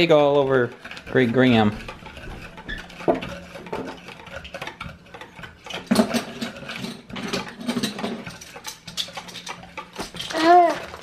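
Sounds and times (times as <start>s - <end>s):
whisk scraping plastic bowl: 0.0s - 11.0s.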